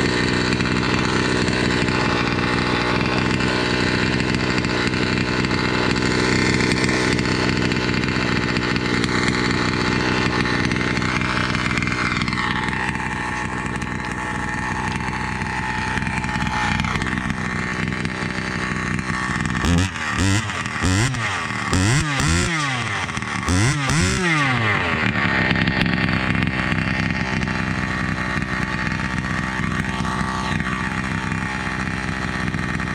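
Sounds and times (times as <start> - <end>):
chainsaw engine revving: 0.0 - 32.9.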